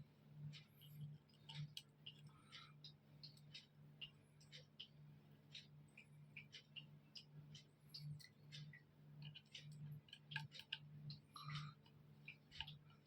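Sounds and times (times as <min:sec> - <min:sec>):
low steady hum: 0:00.0 - 0:13.0
small clicks and ticks: 0:00.0 - 0:13.0.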